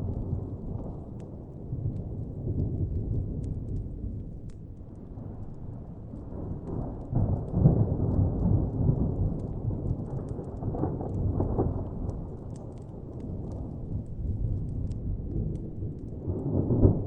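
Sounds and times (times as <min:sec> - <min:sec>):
distant rolling thunder: 0:00.0 - 0:04.6, 0:05.2 - 0:17.0
wood fire crackling: 0:00.0 - 0:17.0.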